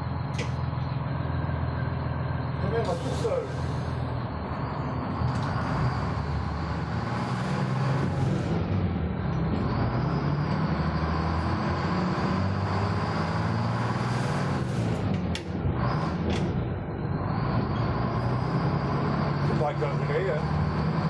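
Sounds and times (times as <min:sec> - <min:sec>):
tram motor hum and rumble: 0:00.0 - 0:21.0.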